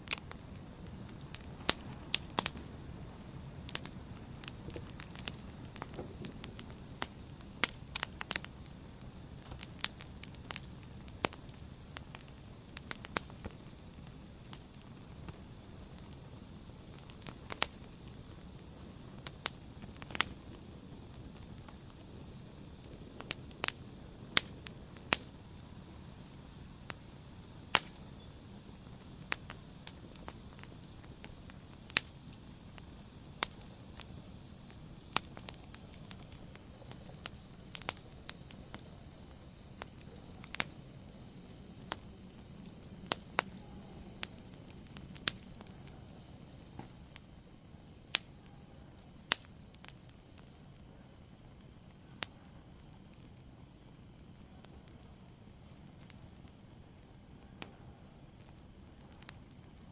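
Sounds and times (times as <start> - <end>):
logs crackling and popping: 0.0 - 59.9
wood fire hissing: 0.0 - 59.9.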